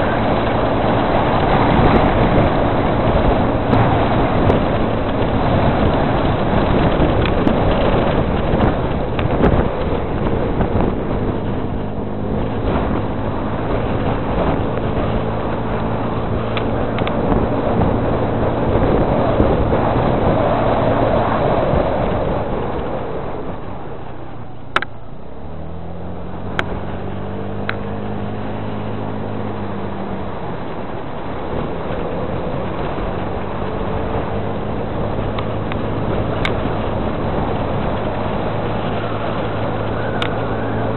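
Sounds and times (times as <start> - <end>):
background rushing noise: 0.0 - 40.9
vehicle engine running: 0.0 - 40.9.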